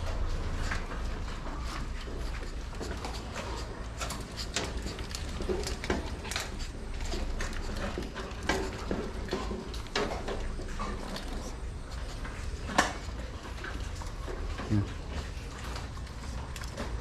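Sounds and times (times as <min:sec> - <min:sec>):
wire cages clinking and rattling: 0:00.0 - 0:17.0.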